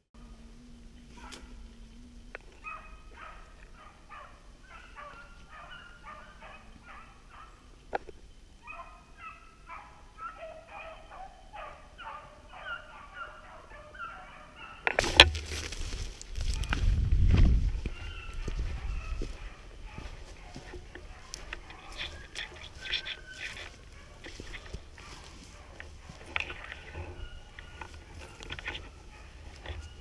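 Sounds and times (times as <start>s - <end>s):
beagles baying: 0.2s - 30.0s.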